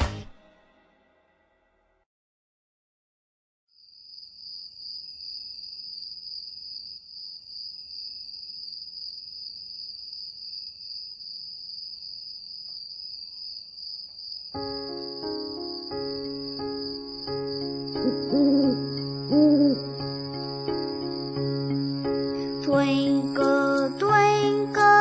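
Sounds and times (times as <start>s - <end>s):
insect chirring: 3.8s - 25.0s.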